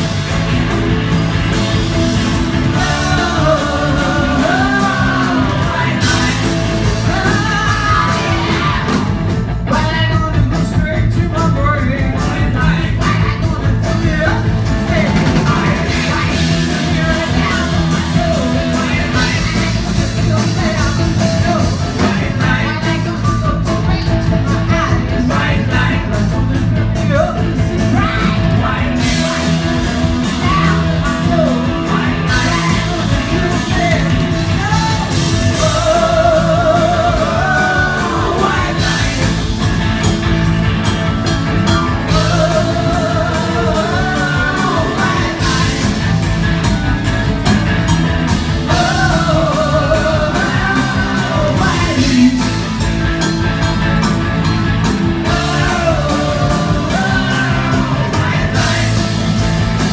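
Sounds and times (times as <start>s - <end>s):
rock band playing live: 0.0s - 59.9s
woman singing lead: 1.9s - 40.2s, 40.8s - 47.3s, 48.3s - 52.9s, 55.1s - 59.9s.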